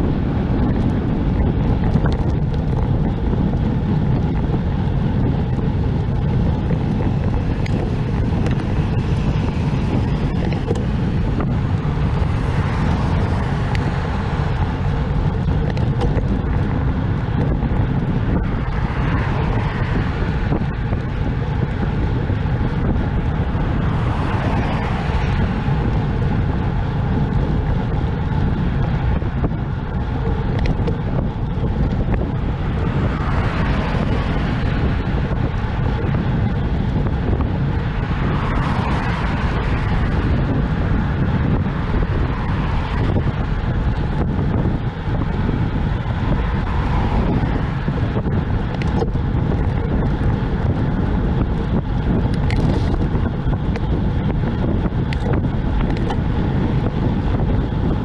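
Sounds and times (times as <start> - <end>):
cars passing: 0.0 - 58.0
wind on microphone: 0.0 - 58.0.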